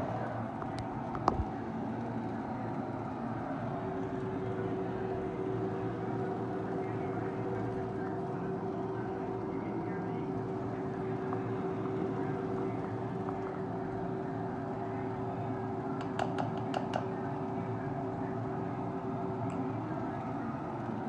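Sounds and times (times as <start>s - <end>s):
constant tone: 0.0s - 21.0s
machine hum: 0.0s - 21.0s.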